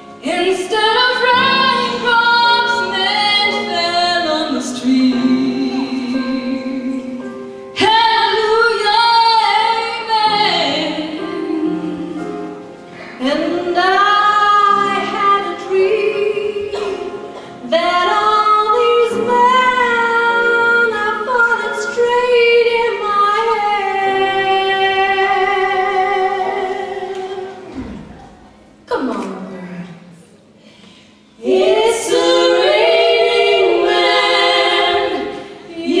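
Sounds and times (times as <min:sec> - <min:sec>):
women singing in harmony: 0:00.1 - 0:27.8, 0:31.4 - 0:36.0.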